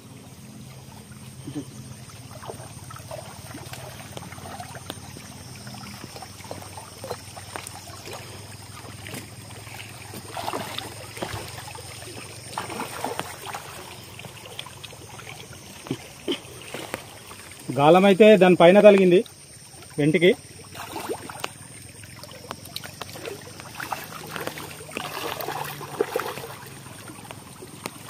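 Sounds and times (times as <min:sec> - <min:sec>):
small waves lapping: 0:00.0 - 0:28.0
water splashes: 0:00.0 - 0:28.0.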